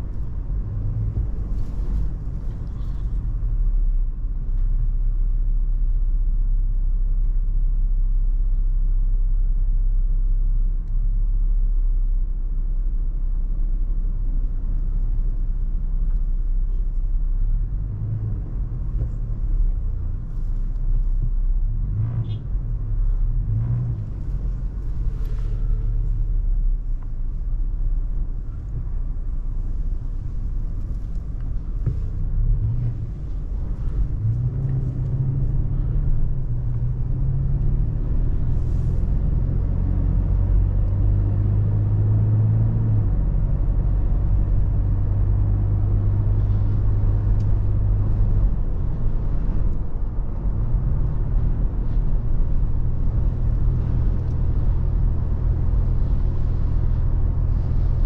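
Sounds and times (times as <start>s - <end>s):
car driving: 0.0s - 6.0s, 13.4s - 58.0s
road and wind noise: 0.0s - 58.0s.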